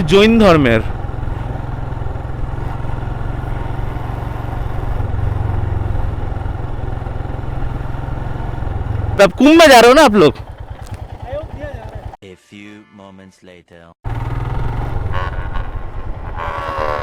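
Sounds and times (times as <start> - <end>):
motorcycle engine running: 0.0 - 12.2, 14.1 - 17.0.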